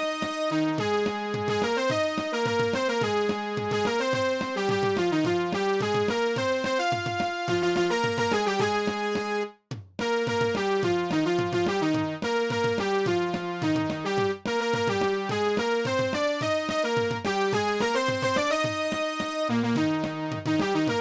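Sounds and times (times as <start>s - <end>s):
synthesizer melody: 0.0s - 21.0s.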